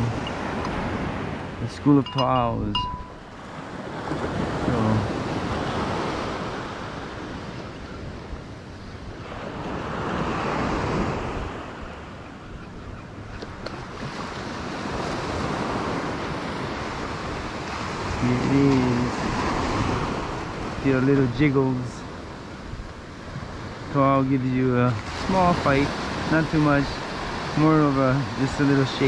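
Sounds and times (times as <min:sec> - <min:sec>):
ocean surf washing ashore: 0:00.0 - 0:29.0.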